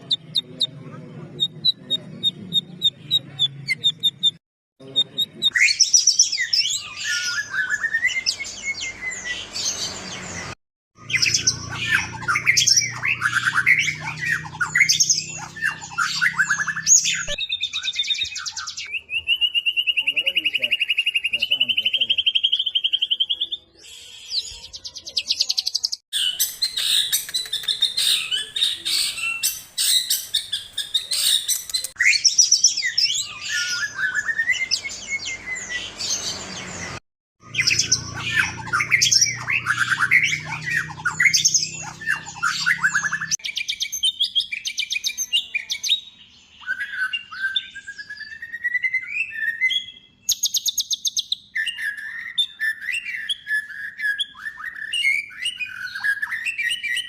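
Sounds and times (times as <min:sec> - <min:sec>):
bird singing rapid whistles and trills: 0:05.0 - 0:57.0.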